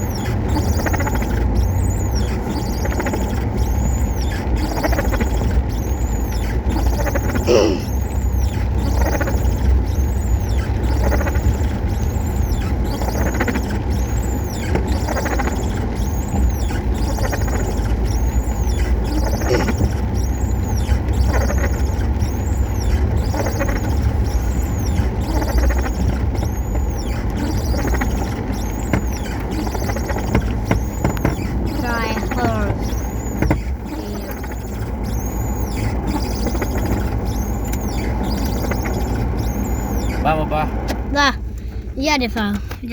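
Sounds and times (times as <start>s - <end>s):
faint high squeak: 0.0s - 41.4s
vehicle road rumble: 0.0s - 42.9s.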